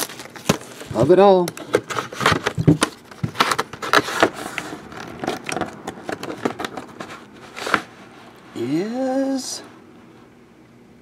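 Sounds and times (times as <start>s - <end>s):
packaging rustling and scraping: 0.0s - 8.8s.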